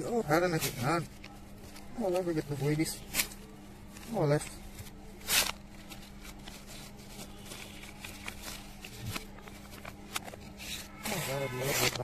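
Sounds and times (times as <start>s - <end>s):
paper rustling backwards: 0.0s - 12.0s
steady low hum: 0.0s - 12.0s.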